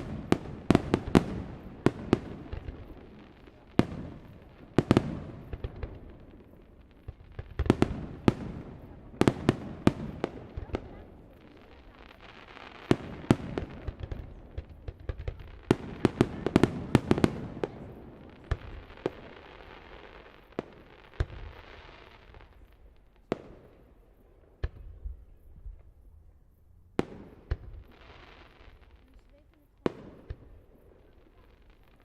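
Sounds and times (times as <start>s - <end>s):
crackling hiss: 0.0s - 32.0s
fireworks bangs: 0.0s - 32.0s.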